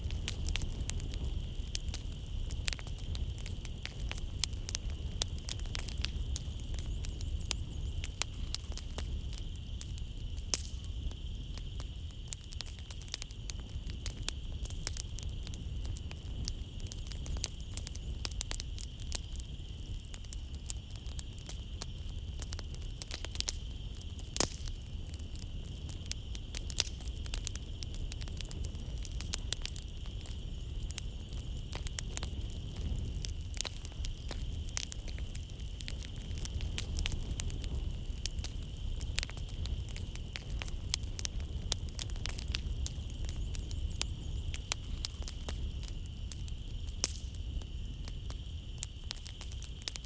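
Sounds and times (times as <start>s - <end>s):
night insects chirring: 0.0s - 50.0s
wood fire crackling: 0.0s - 50.0s.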